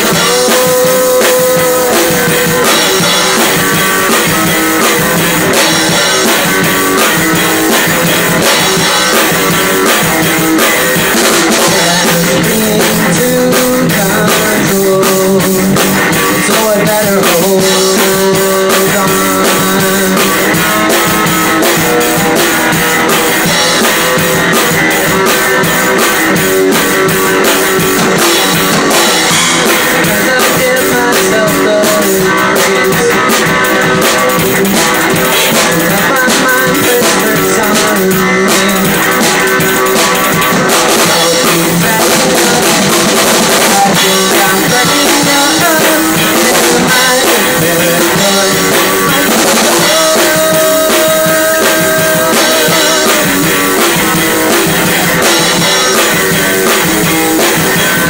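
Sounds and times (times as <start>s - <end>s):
drums and cymbals: 0.0s - 58.0s
live rock band: 0.0s - 58.0s.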